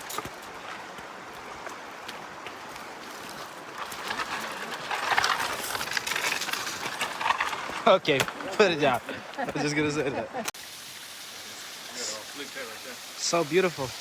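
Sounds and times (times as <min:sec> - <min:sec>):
stream water rushing: 0:00.0 - 0:05.8, 0:08.4 - 0:14.0.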